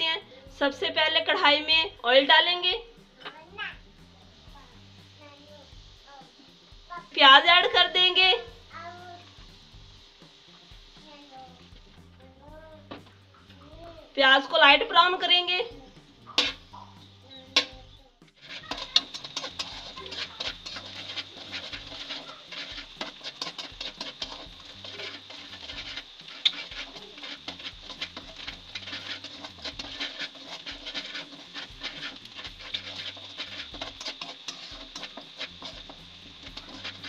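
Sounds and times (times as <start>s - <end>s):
oil popping: 0.0s - 37.0s
onions sizzling in hot oil: 0.0s - 37.0s.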